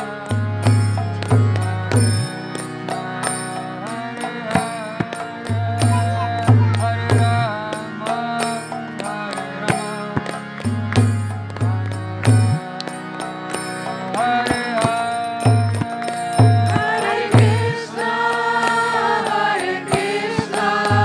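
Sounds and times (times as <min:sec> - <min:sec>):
person chanting a devotional melody: 0:00.0 - 0:21.0.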